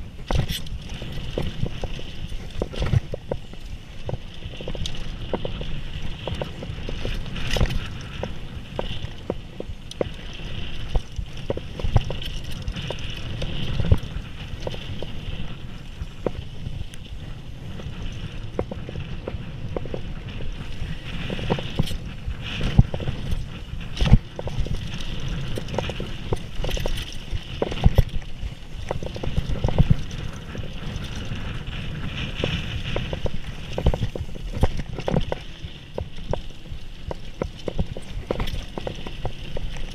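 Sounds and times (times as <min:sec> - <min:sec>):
bike knocking and rattling: 0:00.0 - 0:39.9
bike tyres rumbling on dirt: 0:00.0 - 0:39.9.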